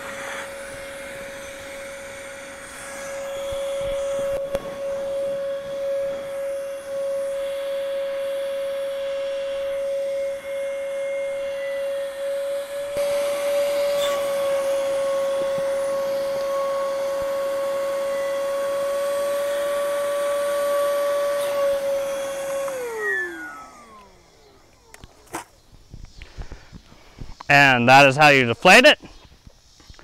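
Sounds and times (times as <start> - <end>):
electric air pump whining: 0.0 - 27.7.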